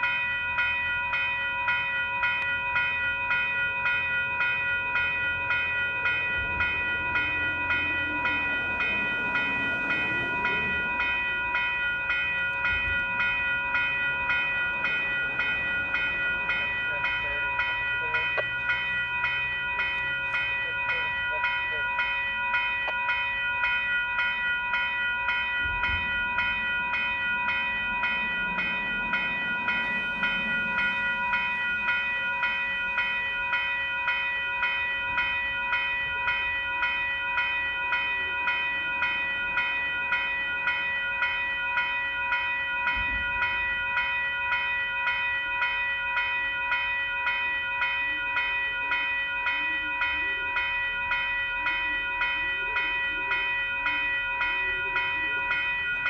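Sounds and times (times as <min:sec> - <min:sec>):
electronic crossing bell ringing: 0:00.0 - 0:56.0.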